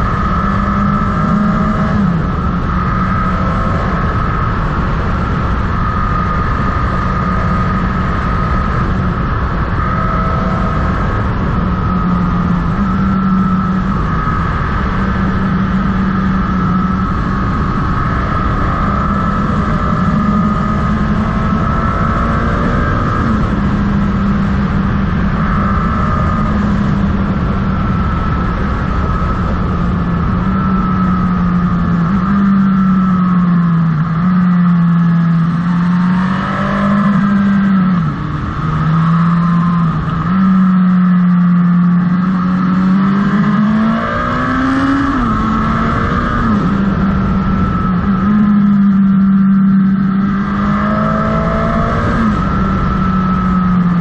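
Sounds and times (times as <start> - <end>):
motorcycle engine cruising: 0.0 - 54.0
wind and road noise rumble: 0.0 - 54.0.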